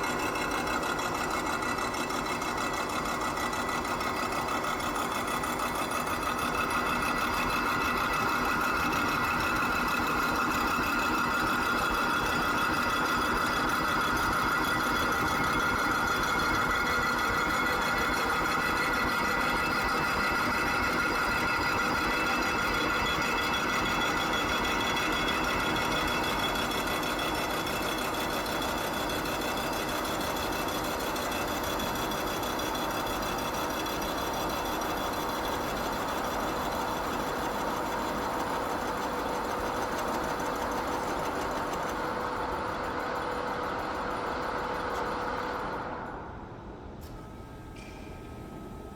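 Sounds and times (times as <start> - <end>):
milling machine motor hum: 0.0 - 46.2.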